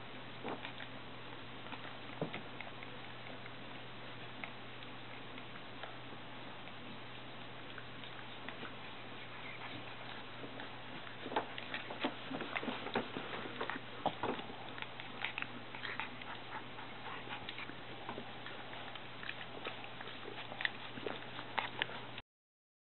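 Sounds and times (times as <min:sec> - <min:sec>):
puppies scuffling and clicking: 0:00.0 - 0:22.2
steady low hum: 0:00.0 - 0:22.2.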